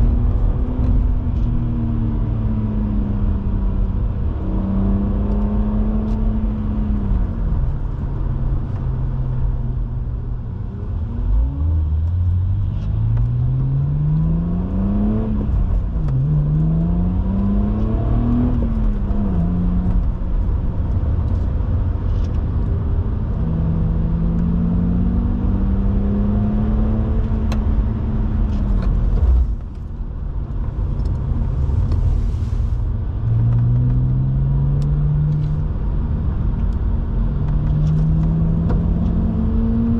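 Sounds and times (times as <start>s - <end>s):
car engine revving through gears: 0.0s - 9.6s, 10.8s - 29.8s, 30.5s - 39.9s.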